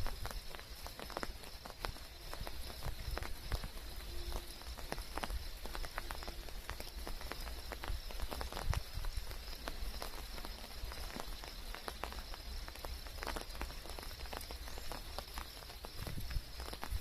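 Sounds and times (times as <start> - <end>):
rain drops ticking: 0.0 - 17.0
steady rain hiss: 0.0 - 17.0.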